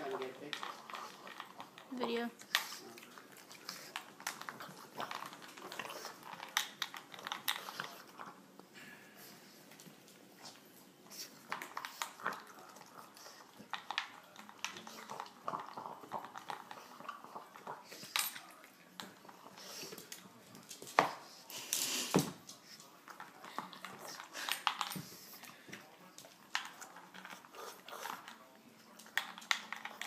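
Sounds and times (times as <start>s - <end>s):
dog crunching kibble: 0.0s - 8.7s, 9.5s - 30.0s.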